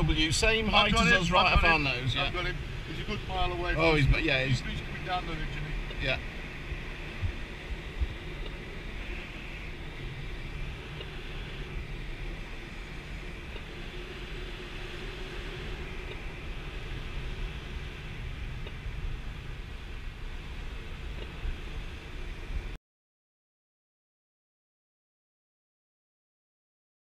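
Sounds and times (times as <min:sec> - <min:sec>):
air rushing around glider cockpit: 0:00.0 - 0:22.8.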